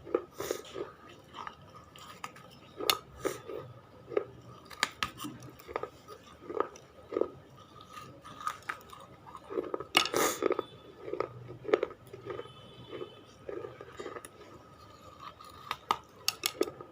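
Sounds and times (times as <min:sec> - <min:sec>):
chewing brittle chips: 0:00.0 - 0:16.9.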